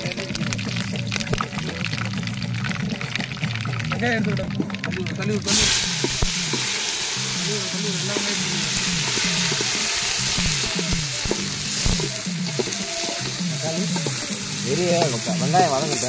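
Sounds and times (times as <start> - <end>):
background music: 0.0 - 16.0
food sizzling in hot oil: 0.0 - 16.0.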